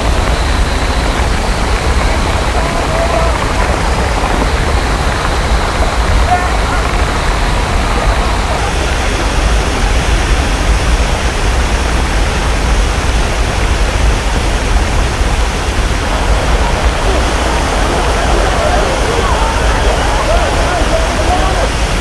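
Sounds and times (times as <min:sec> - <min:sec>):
waterfall pouring heavily: 0:00.0 - 0:22.0.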